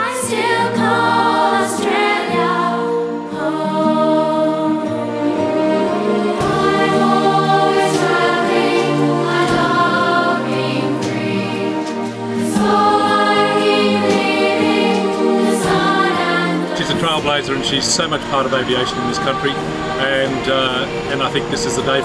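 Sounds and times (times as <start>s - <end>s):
accompanying music: 0.0s - 22.0s
choir singing held chords: 0.0s - 22.0s.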